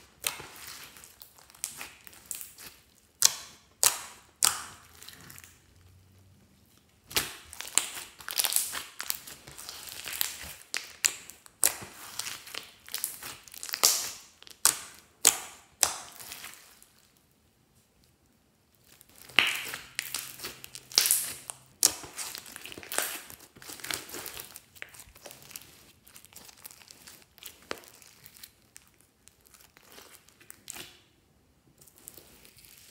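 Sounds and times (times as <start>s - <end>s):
slime popping and crackling: 0.0s - 5.6s, 7.0s - 17.1s, 18.8s - 31.0s
slime squelching: 0.0s - 17.1s, 18.7s - 31.1s, 31.8s - 32.9s.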